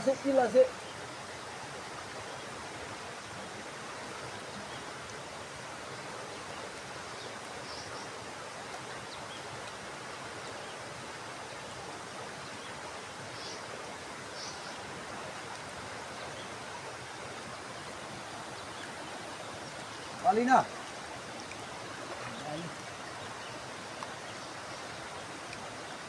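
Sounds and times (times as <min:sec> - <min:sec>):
fast-flowing river rushing: 0:00.0 - 0:26.0.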